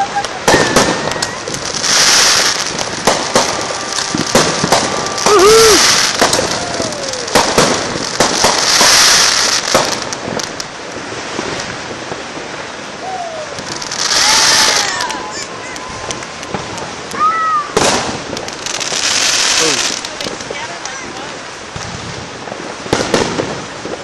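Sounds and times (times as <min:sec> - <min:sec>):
fireworks bangs: 0:00.0 - 0:24.0
fireworks crackling hiss: 0:00.0 - 0:24.0.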